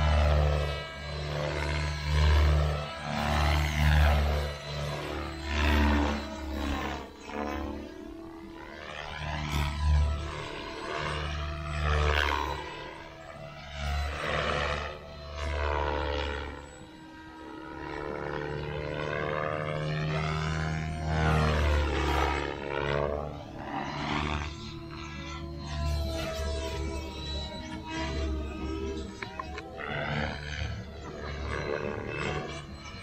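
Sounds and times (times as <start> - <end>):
model helicopter motor whine: 0.0 - 33.0.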